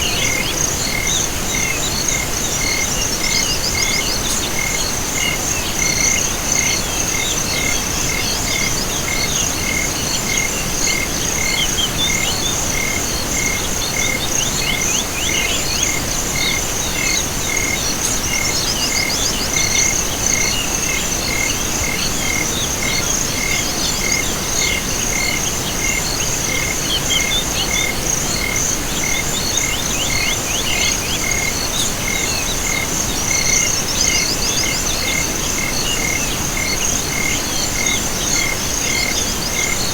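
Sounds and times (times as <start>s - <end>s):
insects and frogs trilling: 0.0s - 39.9s.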